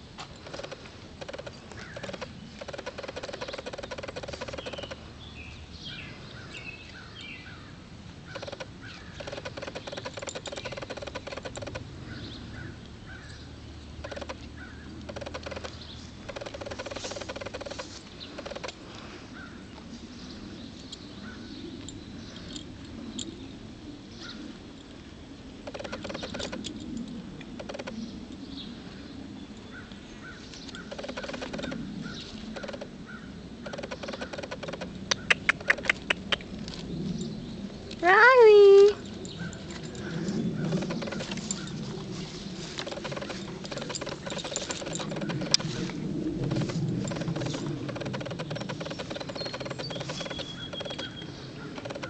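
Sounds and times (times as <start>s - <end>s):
small birds chirping: 0.4s - 24.6s, 25.7s - 27.0s, 27.6s - 45.9s, 46.5s - 52.0s.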